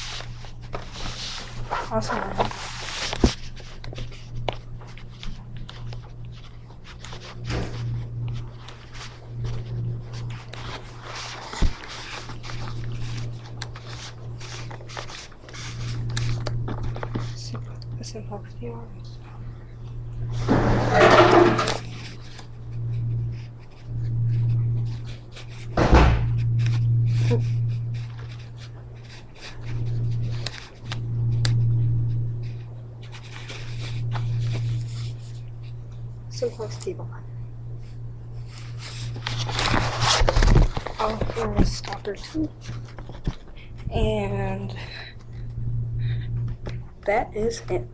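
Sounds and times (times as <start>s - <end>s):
camera rustling and scraping: 0.0s - 18.3s, 20.3s - 35.9s, 38.4s - 45.5s
steady low hum: 0.0s - 47.9s.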